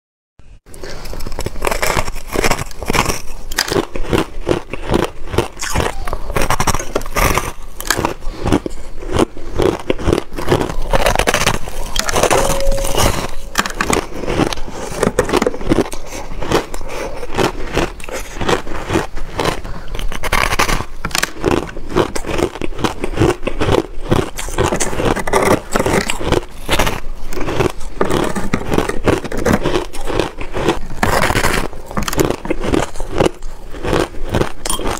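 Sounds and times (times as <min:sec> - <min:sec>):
chewing crunchy ice: 0:00.7 - 0:34.9.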